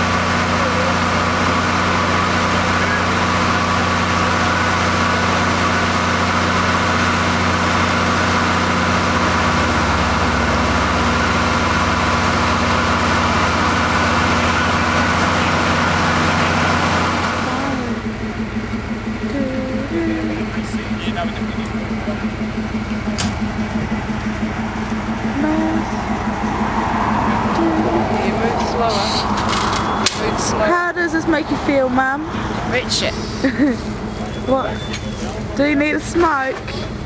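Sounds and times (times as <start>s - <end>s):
large vehicle engine idling: 0.0s - 37.0s.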